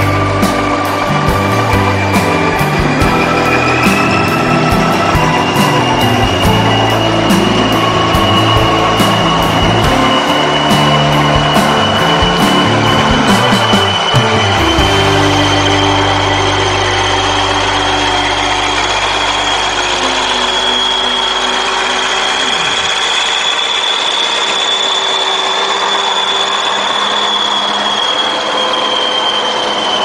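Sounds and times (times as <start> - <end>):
steady high-pitched whine: 0.0 - 30.0
truck engine drone: 0.0 - 30.0.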